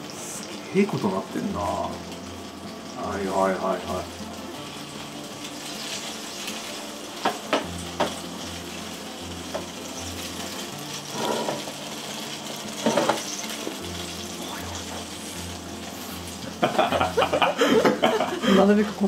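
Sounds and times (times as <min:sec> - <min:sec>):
fat sizzling on baking tray: 0:00.0 - 0:19.0.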